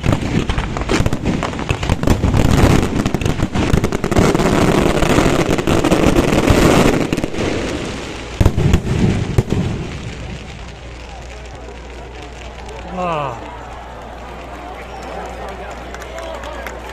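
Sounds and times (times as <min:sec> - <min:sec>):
loud firework booms: 0:00.0 - 0:13.9
fireworks crackling and banging: 0:00.0 - 0:16.9.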